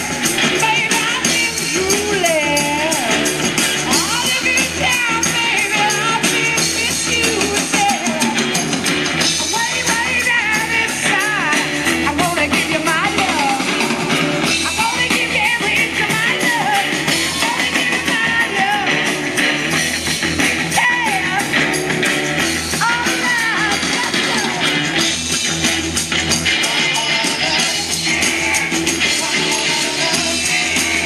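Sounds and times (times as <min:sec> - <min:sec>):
song with singing over a band: 0:00.0 - 0:31.0.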